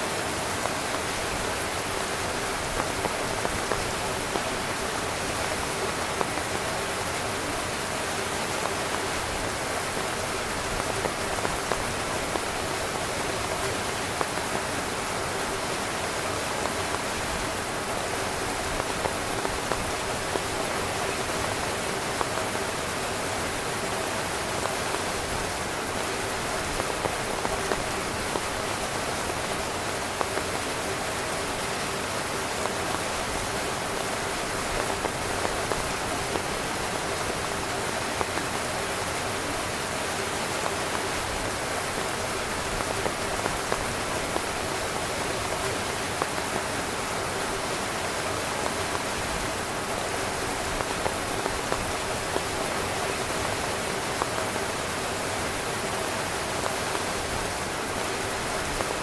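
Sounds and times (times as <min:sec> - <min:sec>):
heavy rain on tent fabric: 0:00.0 - 0:59.0.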